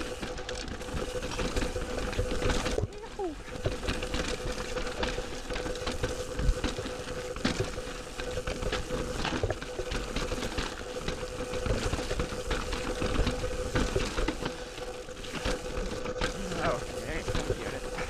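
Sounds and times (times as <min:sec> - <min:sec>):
bike rattling and clicking: 0:00.0 - 0:18.0
bike tyres rolling on rock: 0:00.0 - 0:18.0.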